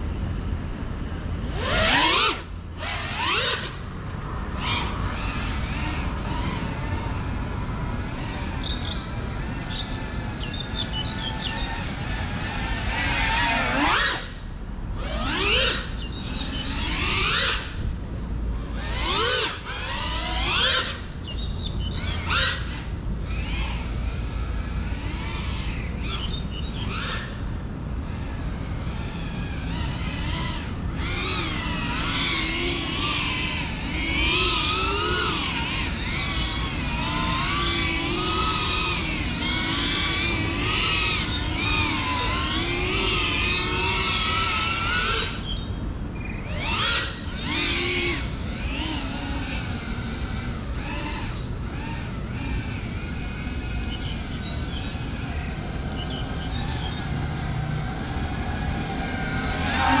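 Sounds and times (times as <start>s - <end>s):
drone motors whining: 0.0s - 60.0s.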